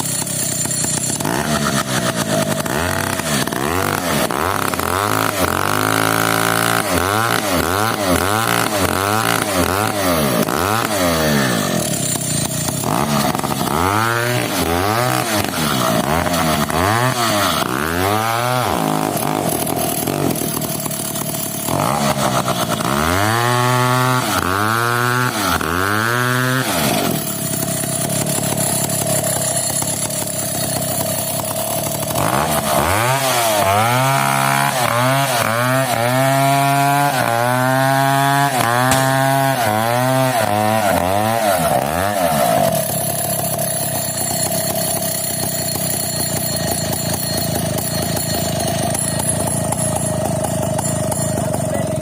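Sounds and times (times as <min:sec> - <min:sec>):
chainsaw running and revving: 0:00.0 - 0:52.0.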